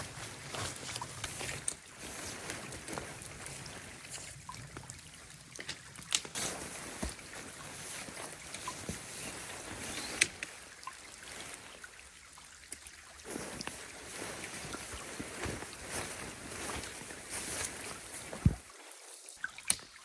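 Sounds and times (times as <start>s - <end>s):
water running and trickling: 0.0s - 20.0s.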